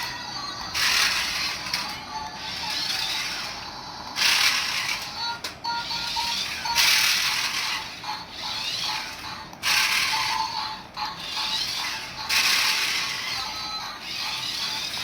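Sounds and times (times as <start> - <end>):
geared mechanism whirring and ratcheting: 0.7 - 5.1, 6.0 - 15.0.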